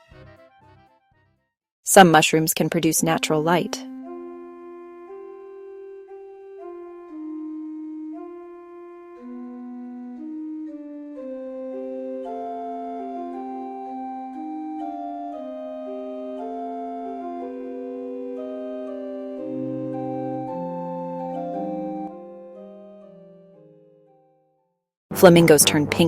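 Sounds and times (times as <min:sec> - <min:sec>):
slow organ-like music: 0:00.0 - 0:01.3, 0:03.1 - 0:24.4.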